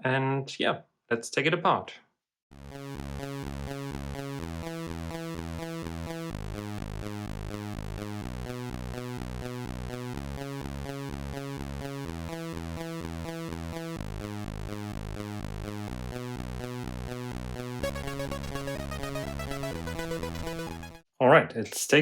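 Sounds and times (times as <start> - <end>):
pulsing bass beat: 2.6 - 21.0
synthesizer melody: 2.6 - 21.0.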